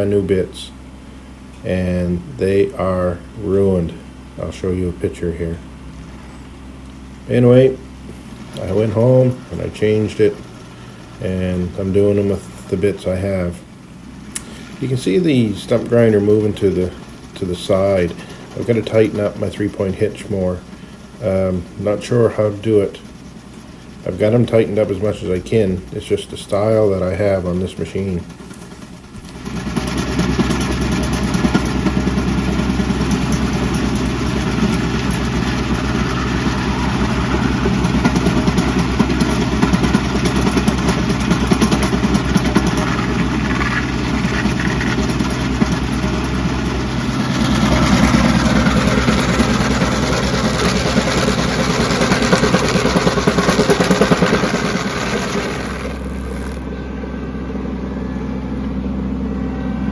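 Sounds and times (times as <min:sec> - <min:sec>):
stump grinder grinding wood: 0:00.0 - 0:59.9
tractor diesel engine running: 0:00.0 - 0:59.9.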